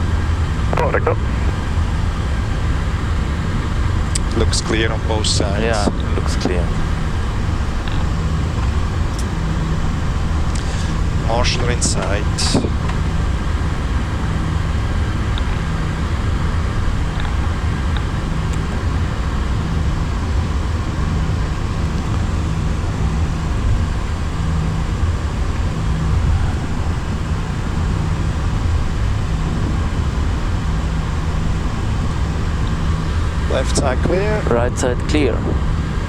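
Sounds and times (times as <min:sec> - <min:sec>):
aircraft engines idling rumble: 0:00.0 - 0:36.0.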